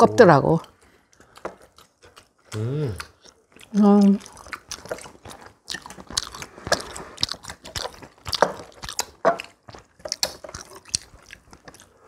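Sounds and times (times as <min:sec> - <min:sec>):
people chewing and biting: 0:00.0 - 0:12.0.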